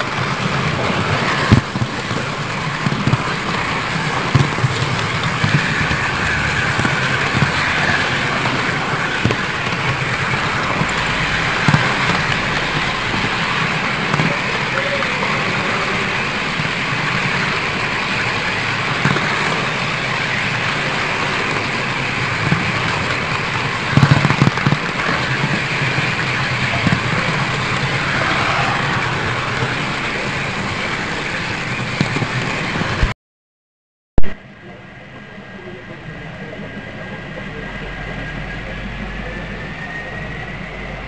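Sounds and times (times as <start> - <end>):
loud clacks: 0.0 - 33.1
model train wheels rolling: 0.0 - 33.1.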